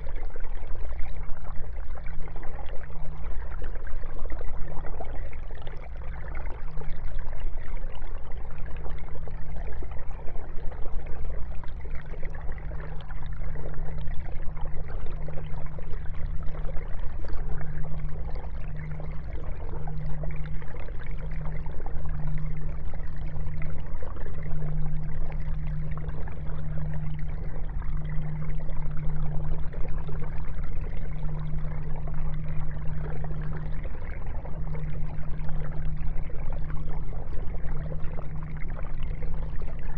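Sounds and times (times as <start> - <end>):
aquarium filter trickling water: 0.0 - 39.9
low even hum: 0.0 - 39.9.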